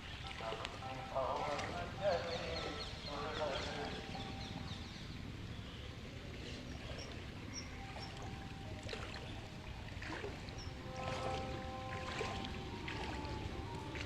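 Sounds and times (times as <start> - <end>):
rushing river water: 0.0 - 14.0.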